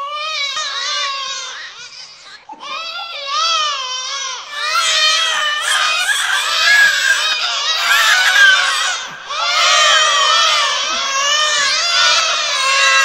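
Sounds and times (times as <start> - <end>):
high voices wailing and crying: 0.1 - 13.0.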